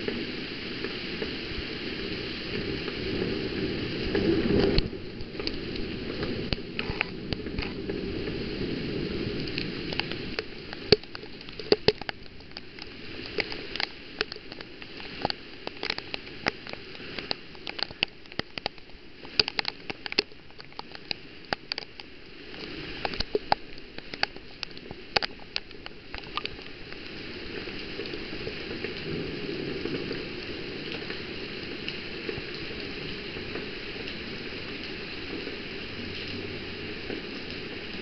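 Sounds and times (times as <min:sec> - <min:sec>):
heavy rain: 0:00.0 - 0:38.0
raindrops ticking on a surface: 0:00.0 - 0:38.0.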